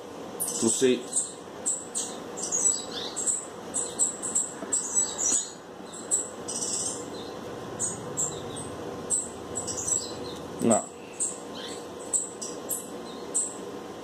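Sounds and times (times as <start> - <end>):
faint steady hum: 0.0 - 14.0
small birds chirping: 0.0 - 14.0.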